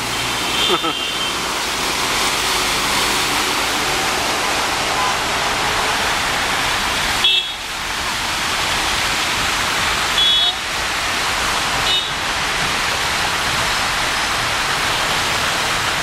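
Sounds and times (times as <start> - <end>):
vehicles splashing through floodwater: 0.0 - 16.0.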